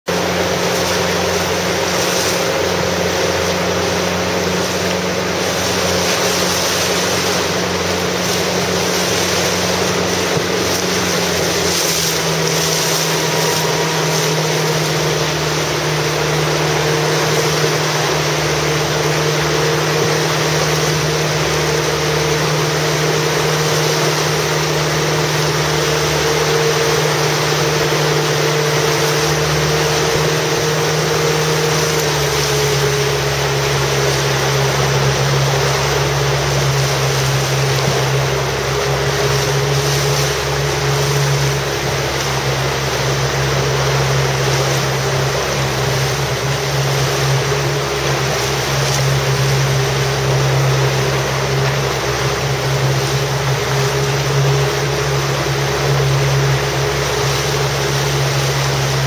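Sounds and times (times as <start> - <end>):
motorboat engine running: 0.0 - 59.0
wind and water hiss: 0.1 - 59.0.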